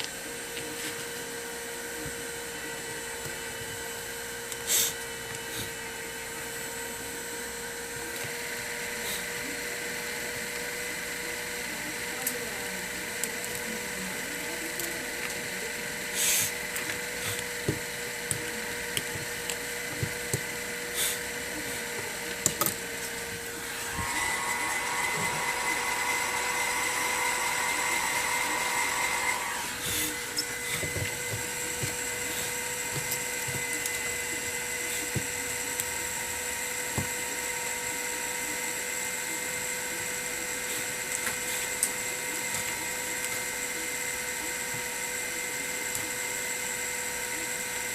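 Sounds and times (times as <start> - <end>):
small electric motor whining: 0.0 - 47.9.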